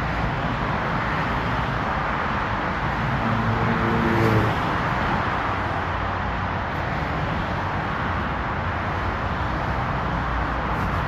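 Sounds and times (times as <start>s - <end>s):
road traffic noise: 0.0s - 11.0s
vehicle engine hum: 0.0s - 11.0s.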